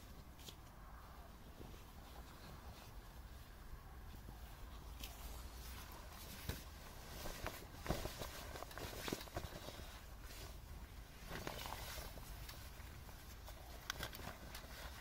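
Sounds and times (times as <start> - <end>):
jacket fabric rustling: 0.0 - 15.0.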